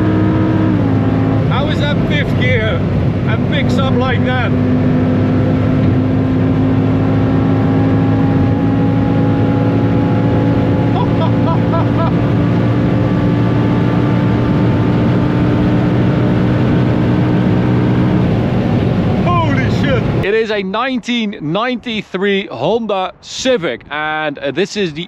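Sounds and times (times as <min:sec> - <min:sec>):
car engine pulling hard: 0:00.0 - 0:20.2
road and wind noise: 0:00.0 - 0:25.0.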